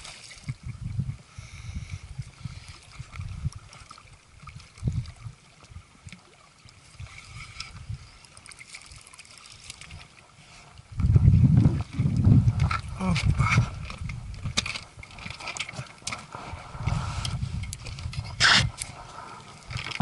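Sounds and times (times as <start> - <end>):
wind rumble on microphone: 0.0 - 6.2, 6.9 - 8.2, 10.7 - 20.0
water splashing and lapping: 0.0 - 20.0.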